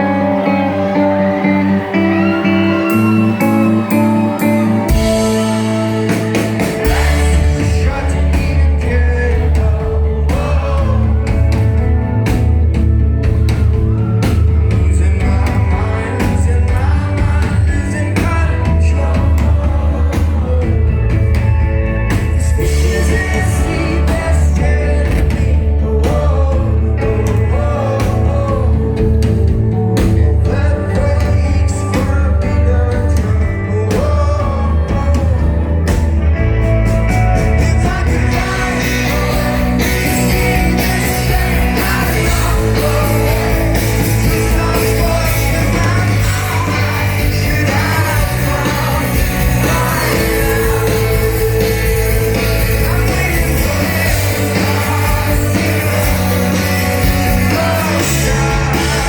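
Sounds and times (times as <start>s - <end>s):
person singing: 0.0s - 12.4s, 13.5s - 59.0s
heavy bass line: 0.0s - 59.0s
rock band playing: 0.0s - 59.0s.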